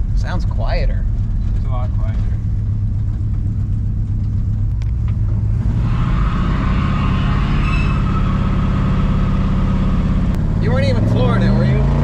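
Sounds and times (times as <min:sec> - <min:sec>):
truck engine accelerating: 0:00.0 - 0:12.0.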